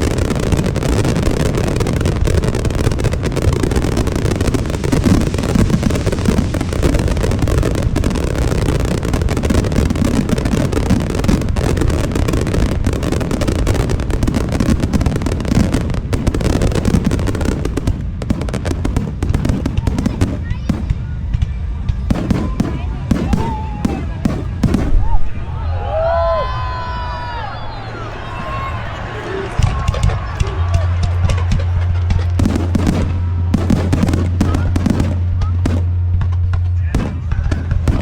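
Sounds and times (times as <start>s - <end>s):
fireworks bursting: 0.0s - 25.4s, 27.8s - 38.0s.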